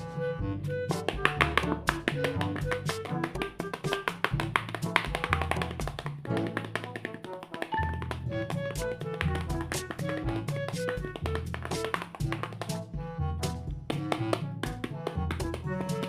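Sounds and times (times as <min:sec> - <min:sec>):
upbeat background music: 0:00.0 - 0:16.0.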